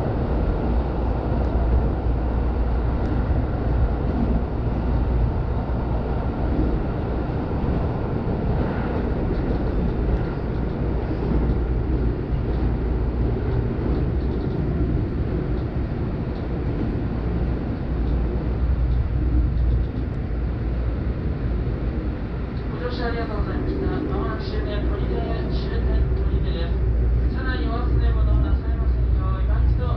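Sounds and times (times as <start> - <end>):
train rumbling over bridge: 0.0 - 29.9.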